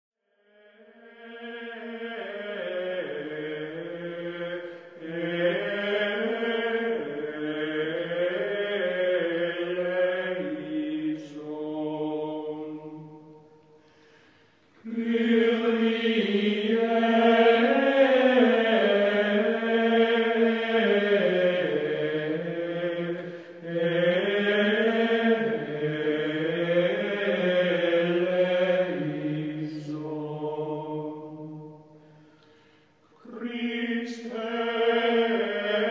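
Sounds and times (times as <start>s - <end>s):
voices chanting slowly: 0.4s - 35.9s.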